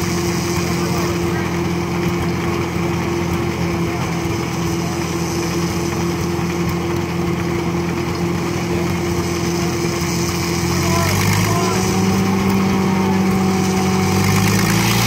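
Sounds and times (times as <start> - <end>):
sawmill engine humming: 0.0 - 15.0.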